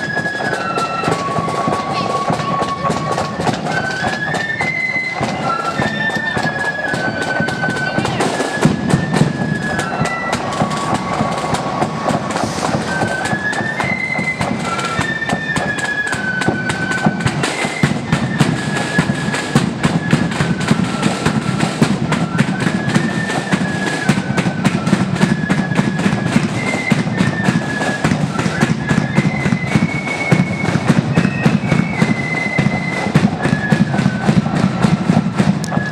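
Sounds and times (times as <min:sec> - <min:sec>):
flute melody: 0:00.0 - 0:35.9
rapid snare drumming: 0:00.0 - 0:35.9.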